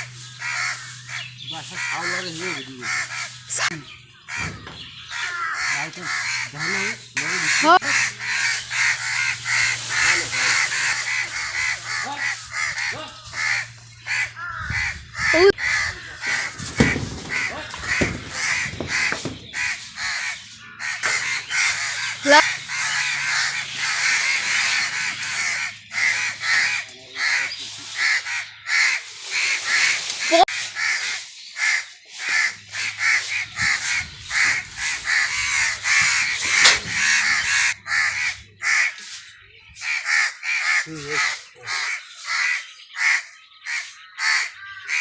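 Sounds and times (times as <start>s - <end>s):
crows cawing: 0.0s - 45.0s.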